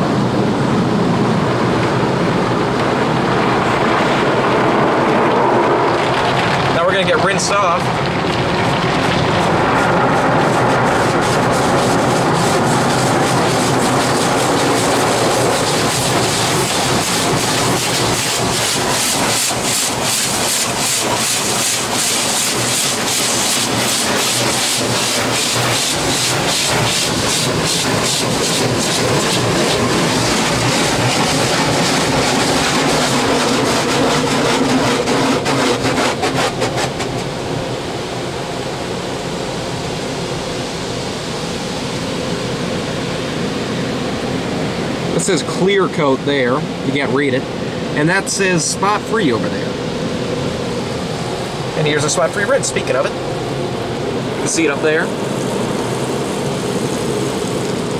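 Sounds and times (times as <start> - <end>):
water spraying on car roof: 0.1 - 57.9.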